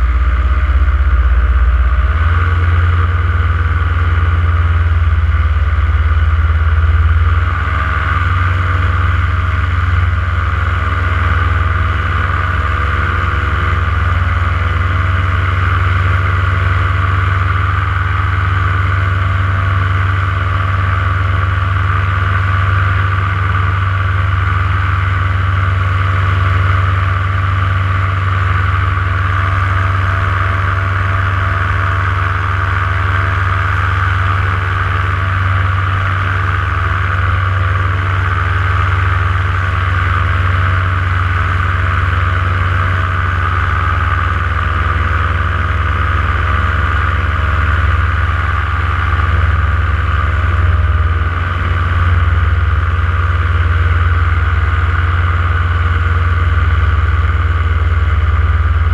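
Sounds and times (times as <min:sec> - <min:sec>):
paramotor engine and propeller drone: 0:00.0 - 0:58.9.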